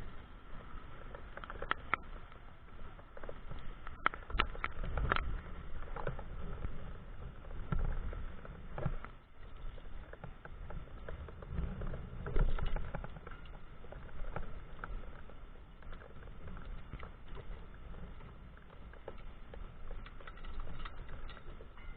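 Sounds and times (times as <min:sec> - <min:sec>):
bike clicks and knocks: 0:00.0 - 0:21.9.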